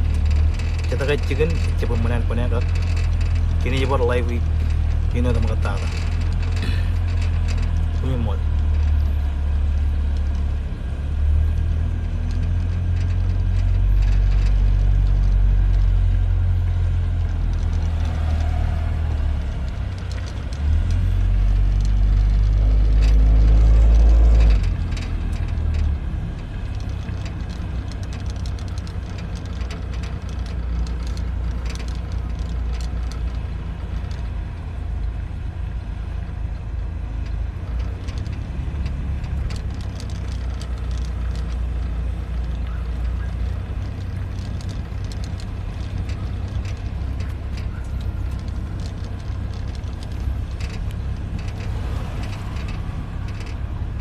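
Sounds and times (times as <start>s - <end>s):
vehicle road noise: 0.0s - 54.0s.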